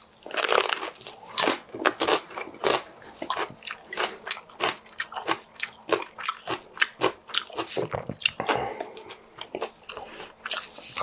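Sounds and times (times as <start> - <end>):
crunchy chewing of chili pepper: 0.0 - 11.0.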